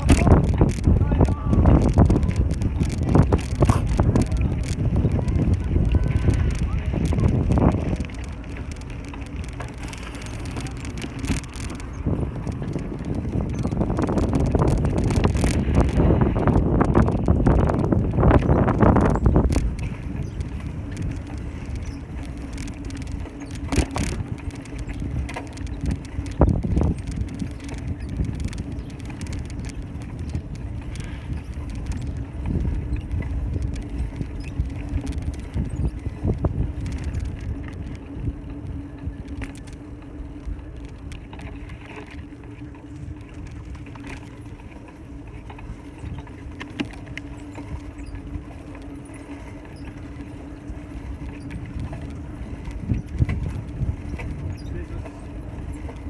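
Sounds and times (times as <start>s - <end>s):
bicycle rattling: 0.0s - 56.0s
bicycle tyre rumble: 0.0s - 56.0s.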